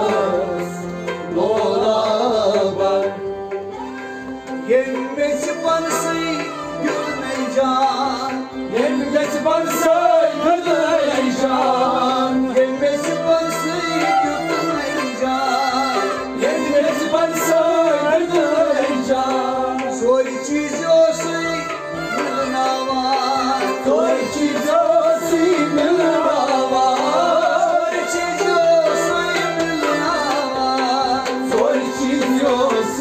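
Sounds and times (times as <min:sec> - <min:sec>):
men singing: 0:00.0 - 0:03.7, 0:04.4 - 0:33.0
bowed string instrument: 0:00.0 - 0:33.0.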